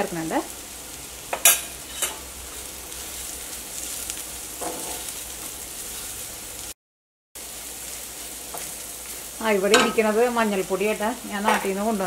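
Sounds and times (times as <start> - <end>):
onions sizzling in hot oil: 0.0 - 6.8, 7.4 - 12.0.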